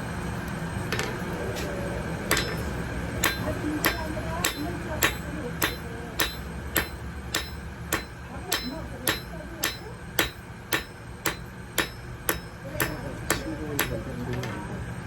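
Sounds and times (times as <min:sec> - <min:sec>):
hammer striking metal on anvil: 0:02.3 - 0:14.6.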